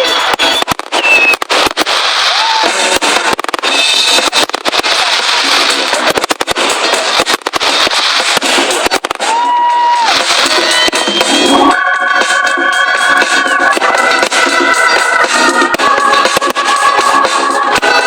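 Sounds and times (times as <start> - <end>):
fireworks bangs and crackling: 0.0 - 18.0
fireworks whistling: 0.0 - 18.0.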